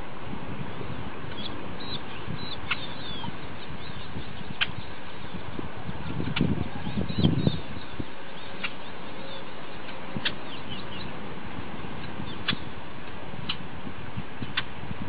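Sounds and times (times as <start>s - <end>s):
small birds chirping: 0.7s - 12.8s.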